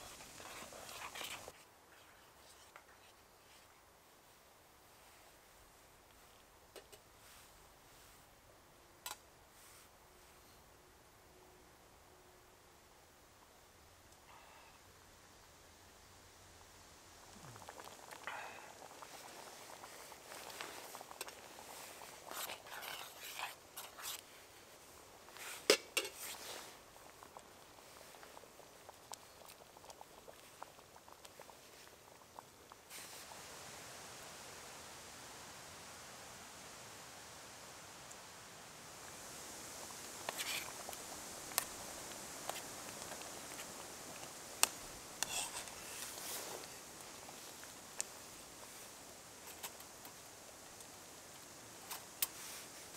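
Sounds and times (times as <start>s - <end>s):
wind and rain hiss: 0.0s - 52.9s.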